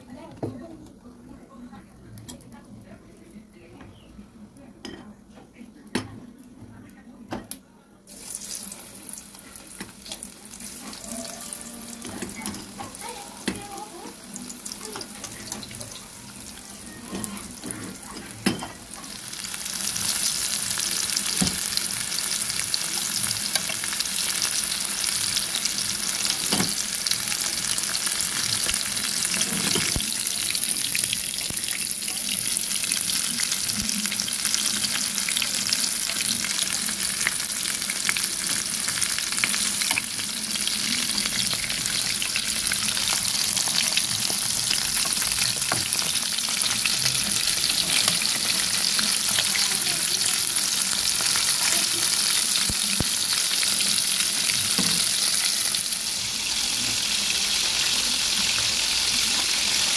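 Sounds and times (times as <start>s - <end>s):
chicken frying in hot oil: 8.1s - 59.9s.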